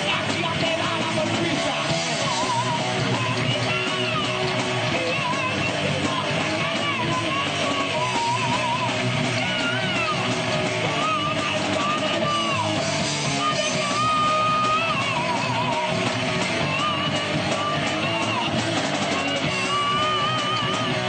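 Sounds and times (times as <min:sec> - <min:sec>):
bass guitar: 0:00.0 - 0:21.0
distorted electric guitars: 0:00.0 - 0:21.0
live rock band playing: 0:00.0 - 0:21.0.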